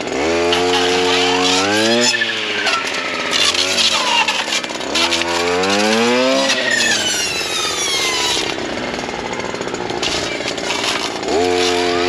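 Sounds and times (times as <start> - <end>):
blade cutting brush: 0.0 - 12.0
brush cutter engine revving: 0.0 - 12.0.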